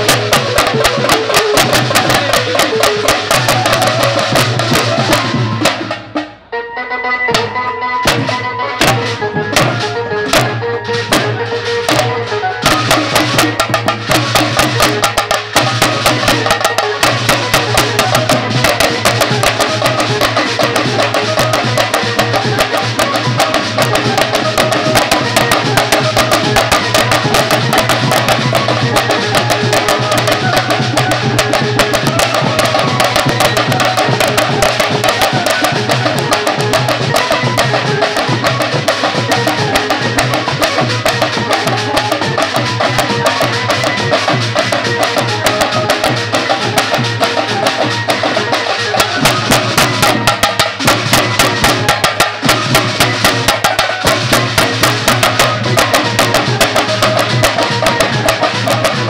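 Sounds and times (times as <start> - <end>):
hand drums beating fast: 0.0 - 6.5, 7.3 - 59.0.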